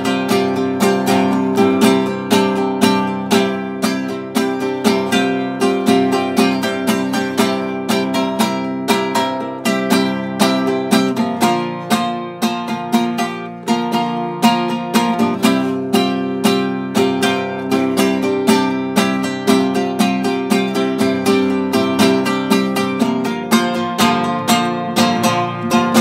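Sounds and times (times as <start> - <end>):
nylon-string guitar strumming: 0.0 - 26.0.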